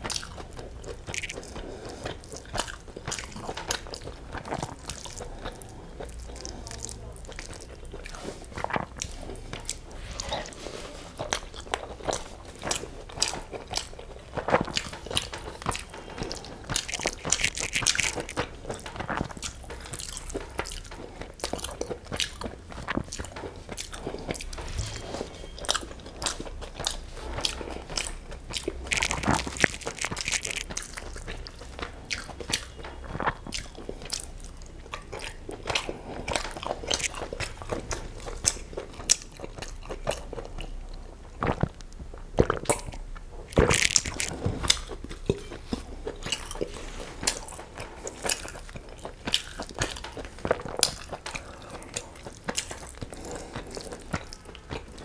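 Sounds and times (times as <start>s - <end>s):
chewing with mouth clicks: 0.0s - 55.0s.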